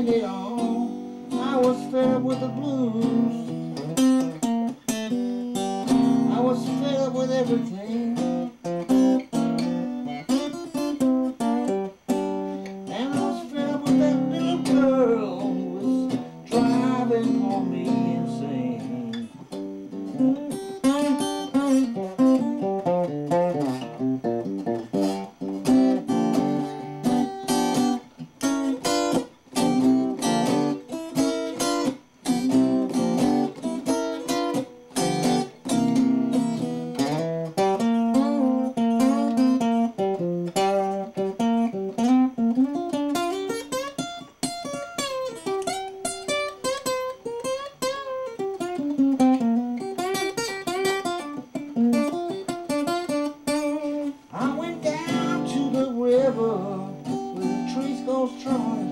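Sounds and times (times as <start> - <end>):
acoustic guitar picked notes: 0.0 - 58.9.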